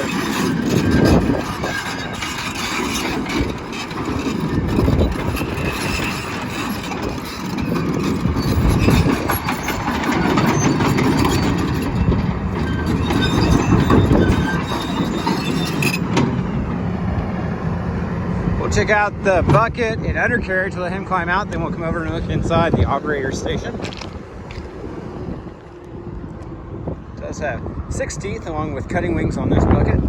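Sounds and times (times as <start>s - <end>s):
excavator engine running: 0.0s - 28.2s
steel tracks clanking and squealing: 0.0s - 30.0s.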